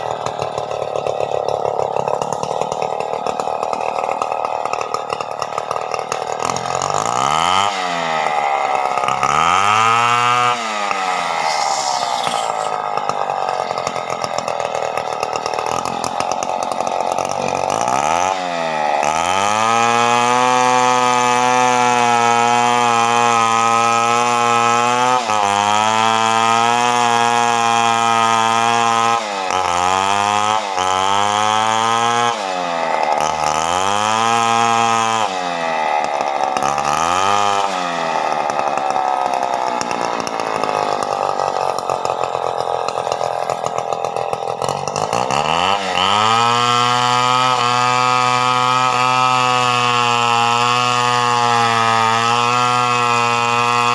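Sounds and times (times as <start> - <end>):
chainsaw revving and cutting: 0.0 - 53.9.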